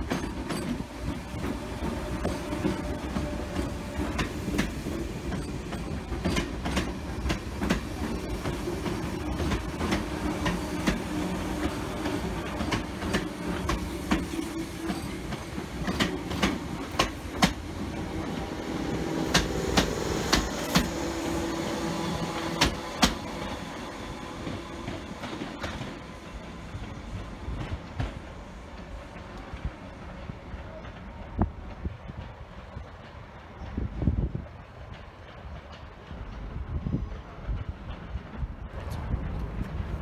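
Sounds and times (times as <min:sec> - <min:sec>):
train rumbling with faint hum: 0:00.0 - 0:40.0.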